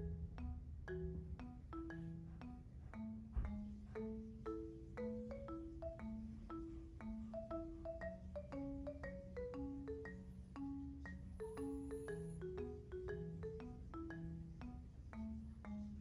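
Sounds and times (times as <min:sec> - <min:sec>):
mallet percussion tune: 0:00.0 - 0:16.0.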